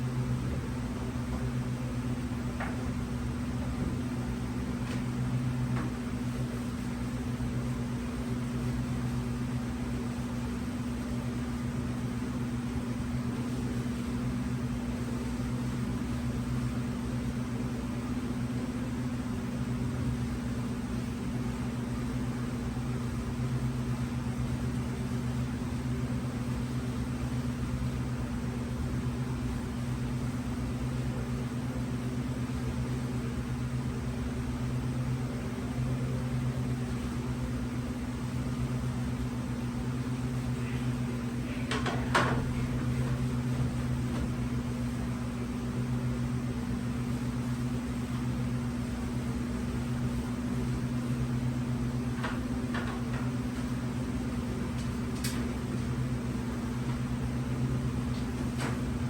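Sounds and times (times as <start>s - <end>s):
electrical machinery hum: 0.0s - 59.0s.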